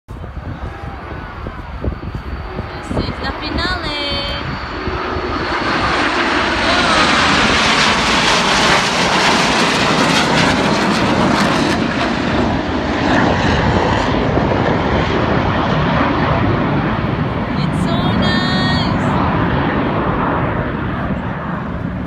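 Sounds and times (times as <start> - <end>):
aircraft engine roar passing: 0.1 - 22.0.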